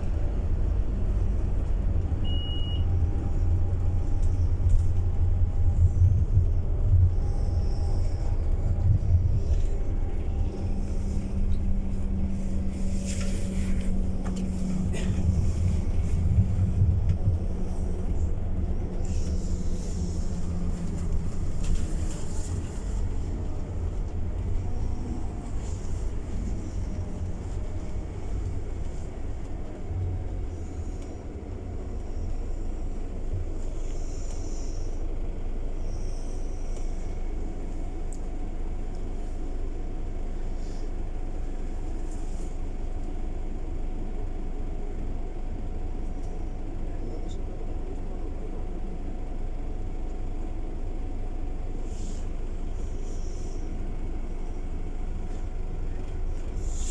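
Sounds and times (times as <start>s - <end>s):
bus engine running: 0.0s - 56.9s
low rumble of tyres: 0.0s - 56.9s.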